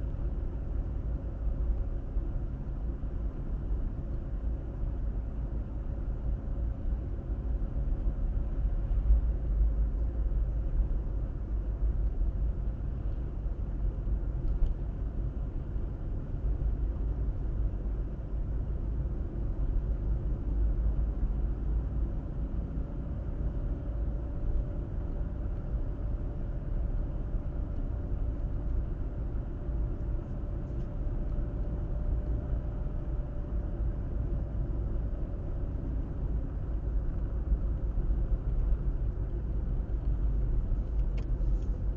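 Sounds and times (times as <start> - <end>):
car road rumble: 0.0 - 41.9
faint steady hum: 0.0 - 41.9.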